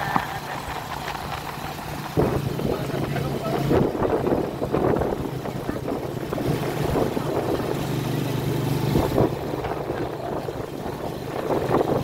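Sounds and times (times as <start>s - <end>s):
small motorcycle engine running: 0.0s - 12.0s
wind rushing over microphone: 0.0s - 12.0s.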